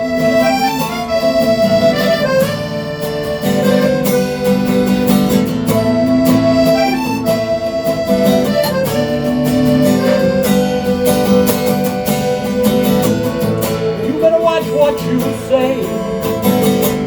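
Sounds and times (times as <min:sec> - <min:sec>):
lead instrument sliding notes: 0:00.0 - 0:17.0
strummed guitar: 0:00.0 - 0:17.0.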